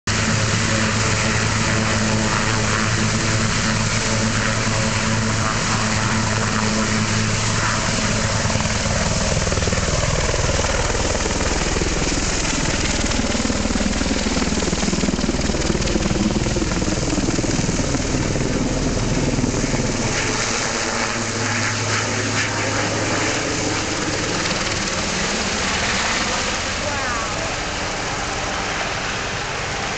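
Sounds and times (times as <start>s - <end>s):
helicopter engines and rotor: 0.1s - 29.9s.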